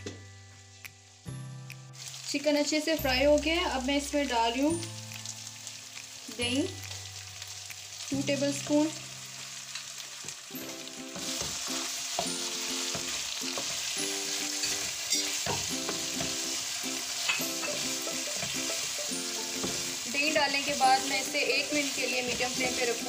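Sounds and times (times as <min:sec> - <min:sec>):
soft background music: 0:00.0 - 0:23.0
food sizzling in a frying pan: 0:01.0 - 0:23.0.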